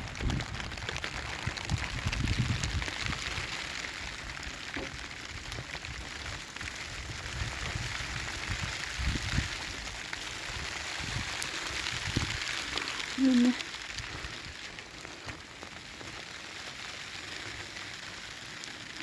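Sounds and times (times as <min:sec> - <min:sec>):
heavy rain pattering: 0:00.0 - 0:19.0.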